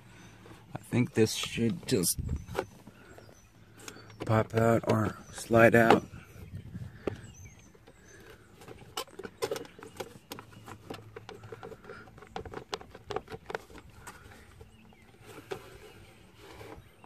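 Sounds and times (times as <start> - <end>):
plastic trim clicking and creaking: 0.4 - 17.0.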